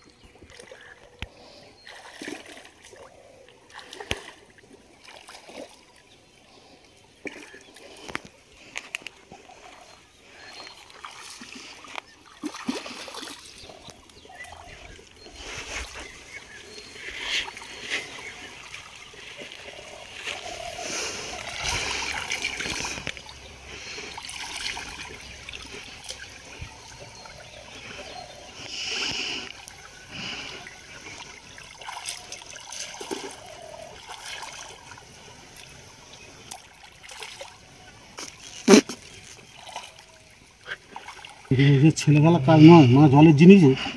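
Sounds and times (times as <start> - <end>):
water trickling: 0.0 - 43.9
hands splashing in pond water: 0.3 - 6.4, 7.0 - 41.5.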